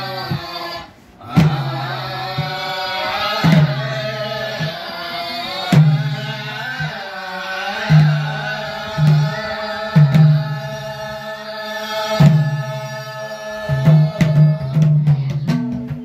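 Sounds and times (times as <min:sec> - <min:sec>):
voices singing slow chant: 0:00.0 - 0:16.0.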